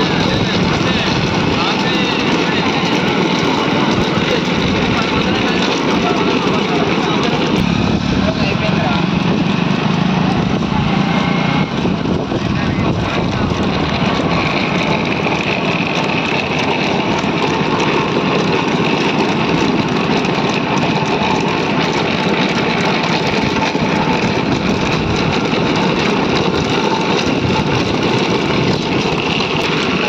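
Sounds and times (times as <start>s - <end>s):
cart rattles: 0.0s - 30.0s
cart wheels rumbling on road: 0.0s - 30.0s.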